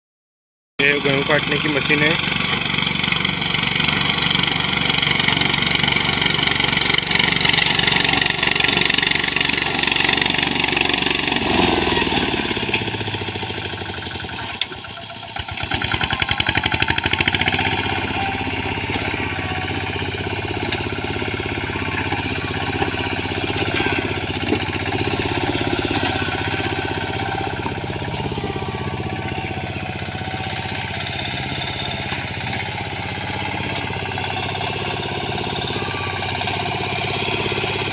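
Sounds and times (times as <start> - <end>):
reaper-binder engine running: 0.8 - 37.9.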